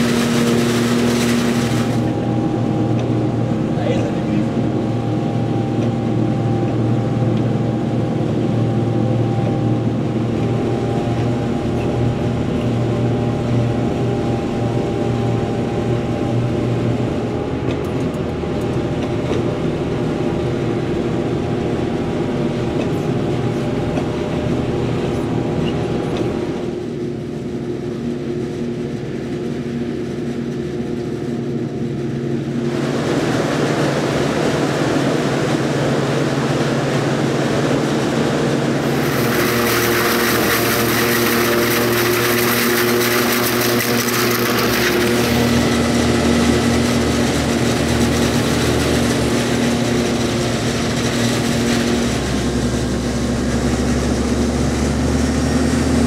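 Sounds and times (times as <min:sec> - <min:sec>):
harvester machine drone: 0:00.0 - 0:56.0.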